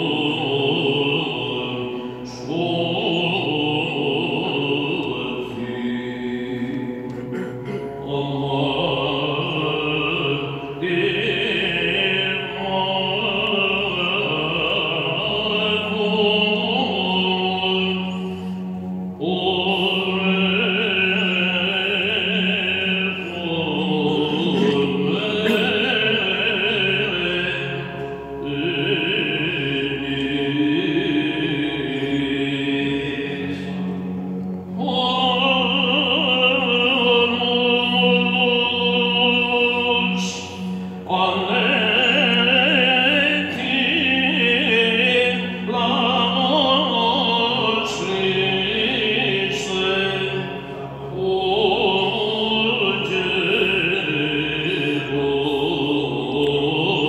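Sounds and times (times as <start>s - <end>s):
man chanting a hymn: 0.0s - 34.0s, 34.7s - 57.0s
low drone note: 0.0s - 57.0s.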